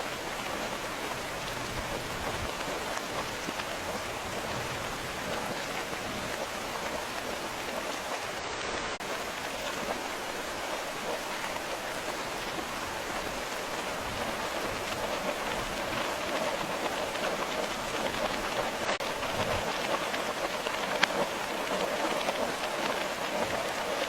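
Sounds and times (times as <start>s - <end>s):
rain pattering: 0.0s - 24.0s
raindrop tick: 0.1s - 8.4s, 9.0s - 24.0s.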